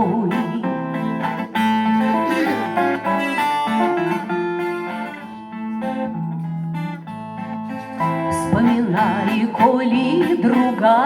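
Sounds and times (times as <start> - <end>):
guitar melody with bass notes: 0.0 - 11.0.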